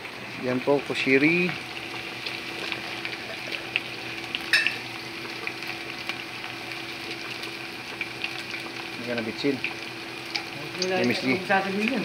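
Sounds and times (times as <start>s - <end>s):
rice frying in oil: 0.0s - 12.0s.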